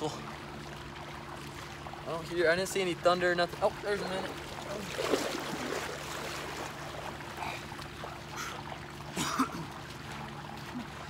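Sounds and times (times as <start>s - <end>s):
fountain jet churning water: 0.0s - 11.0s
low hum: 0.0s - 11.0s
water sloshing around wader: 0.0s - 11.0s
water splashes: 0.0s - 11.0s.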